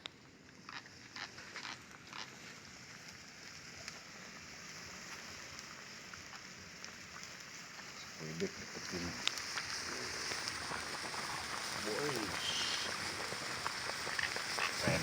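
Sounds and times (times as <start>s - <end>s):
soft crackles: 0.0s - 15.0s
meat sizzling in a pan: 0.2s - 15.0s.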